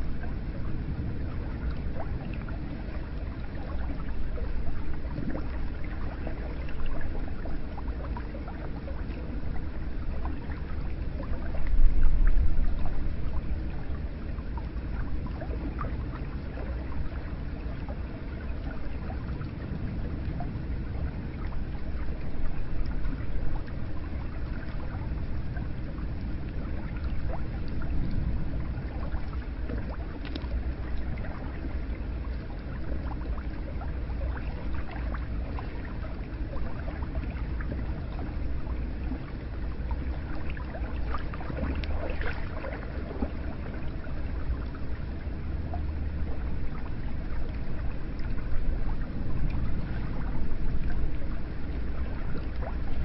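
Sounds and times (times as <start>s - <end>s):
small splashes and drips: 0.4s - 53.0s.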